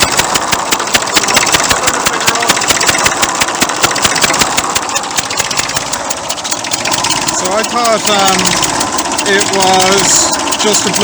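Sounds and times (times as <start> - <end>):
diesel tractor engine idling: 0.0 - 11.0
engine compression blowing: 0.0 - 11.0.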